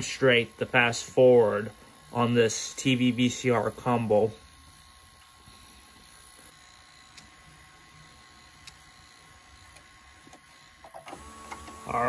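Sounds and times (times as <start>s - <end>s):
tape mechanism running: 0.0s - 12.0s.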